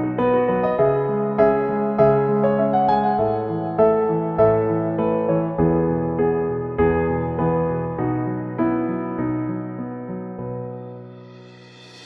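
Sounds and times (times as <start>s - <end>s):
soft electric piano melody: 0.0s - 11.2s.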